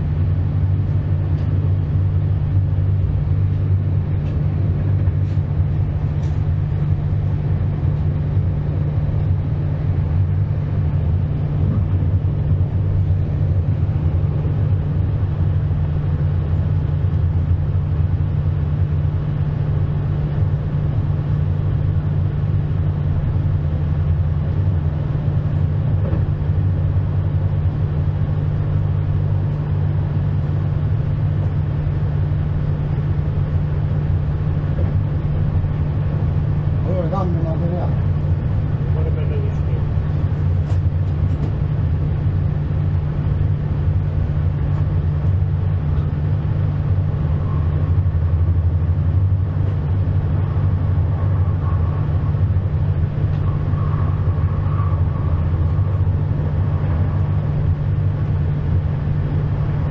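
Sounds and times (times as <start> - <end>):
passenger train rumbling: 0.0 - 59.9.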